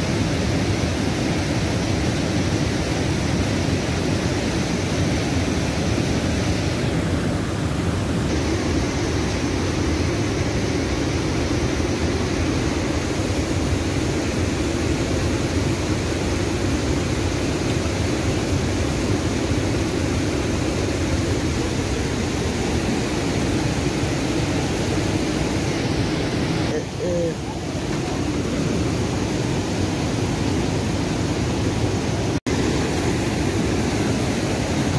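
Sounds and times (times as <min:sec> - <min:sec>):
river rushing over rapids: 0:00.0 - 0:34.9.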